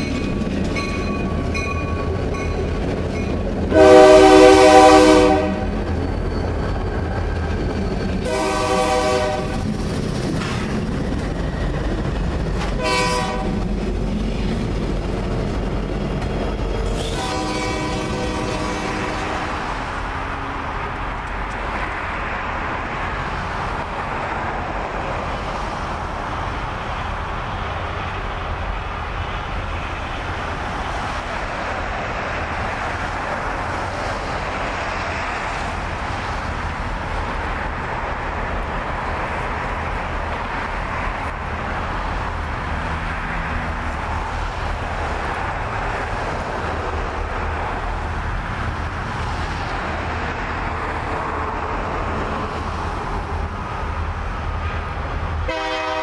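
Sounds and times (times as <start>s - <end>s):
diesel train approaching: 0.0s - 56.0s.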